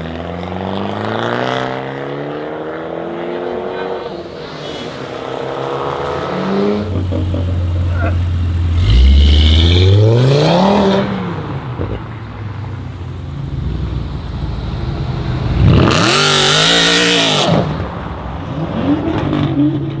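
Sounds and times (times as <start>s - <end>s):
car engine revving and accelerating: 0.0s - 20.0s.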